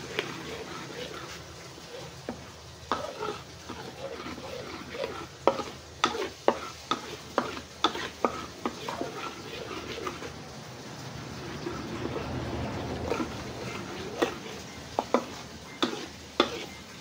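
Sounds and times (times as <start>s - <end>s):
metal spatula scraping a wok: 0.0s - 10.4s, 11.0s - 17.0s
light sizzle: 0.0s - 17.0s.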